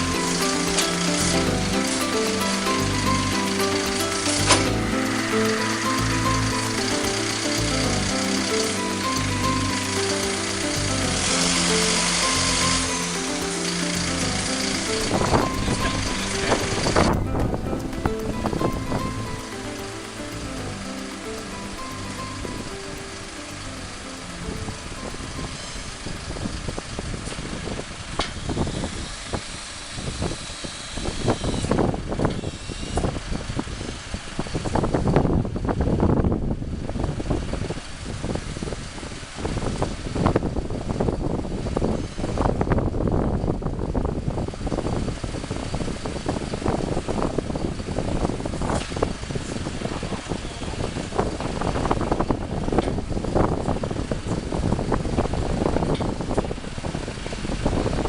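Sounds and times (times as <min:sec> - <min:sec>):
wind buffeting: 0:00.0 - 0:32.4, 0:33.1 - 0:58.0.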